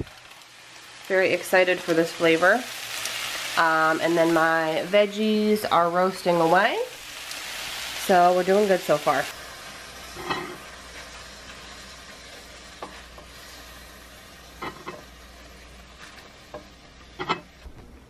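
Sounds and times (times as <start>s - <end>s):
chicken sizzling in frying pan: 0.0s - 17.7s.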